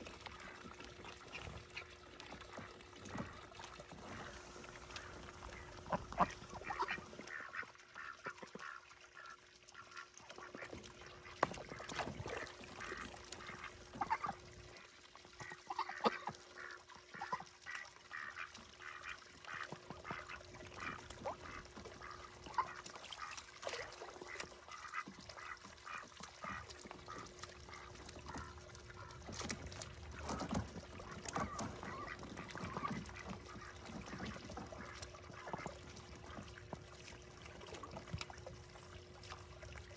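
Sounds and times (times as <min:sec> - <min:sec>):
ducks quacking: 0:00.2 - 0:38.1.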